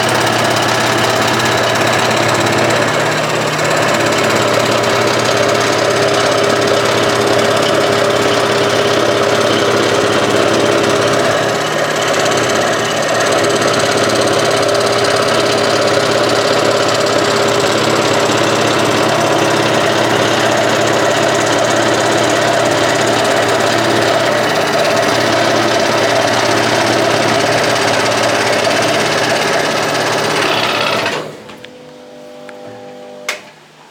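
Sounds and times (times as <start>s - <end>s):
scroll saw cutting wood: 0.0s - 31.5s.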